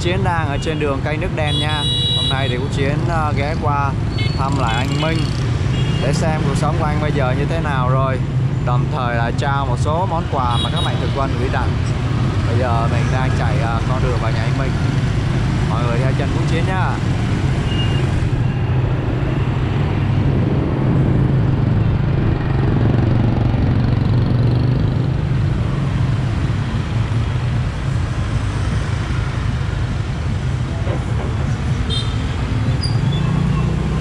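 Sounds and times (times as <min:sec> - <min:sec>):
motorbike engine and road noise: 0:00.0 - 0:34.0.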